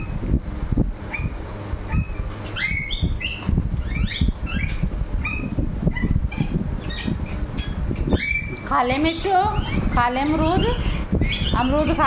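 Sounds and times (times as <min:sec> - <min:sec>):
parakeet chirping: 0:01.1 - 0:12.0.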